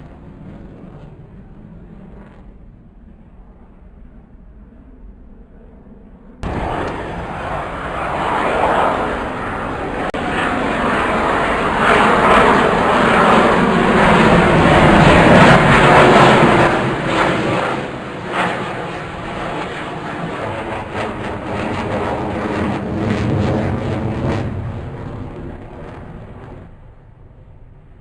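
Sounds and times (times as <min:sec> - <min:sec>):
aircraft engine flying past: 0:00.0 - 0:28.0.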